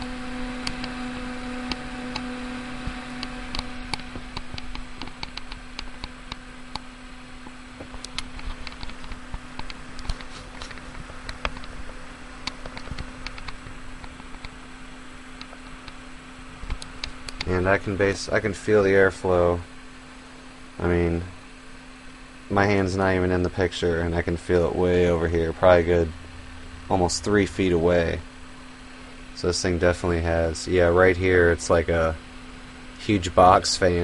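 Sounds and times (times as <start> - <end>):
case fan rushing air: 0.0 - 34.0.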